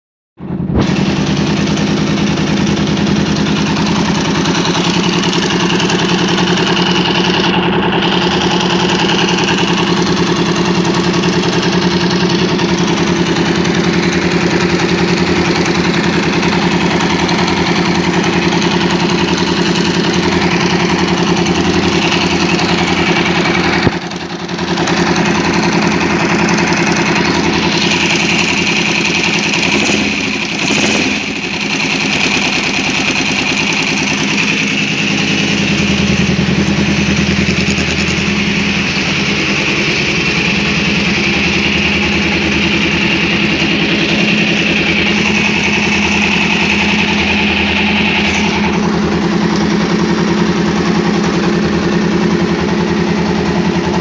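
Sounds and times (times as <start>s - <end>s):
motorcycle engine idling: 0.4s - 54.0s.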